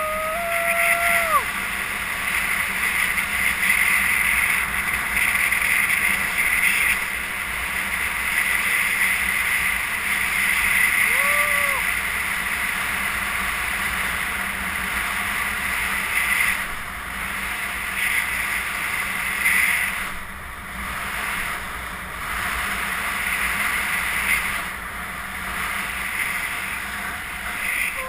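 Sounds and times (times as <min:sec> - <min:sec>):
longboard wheels rolling on asphalt: 0:00.2 - 0:28.0.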